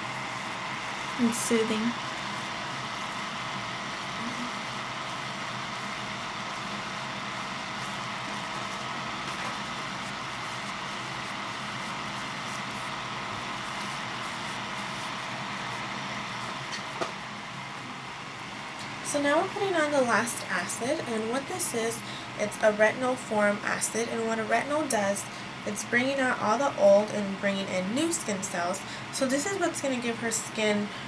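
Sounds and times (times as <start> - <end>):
electric fan humming: 0.0 - 31.0.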